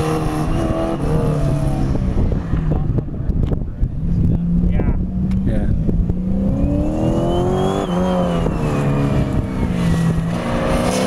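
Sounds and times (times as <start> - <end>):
car engine revving under acceleration: 0.0 - 11.0.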